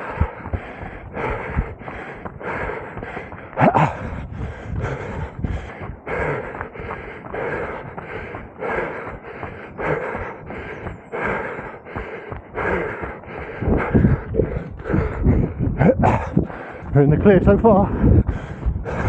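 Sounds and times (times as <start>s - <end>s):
runner breathing hard: 0.0s - 19.0s.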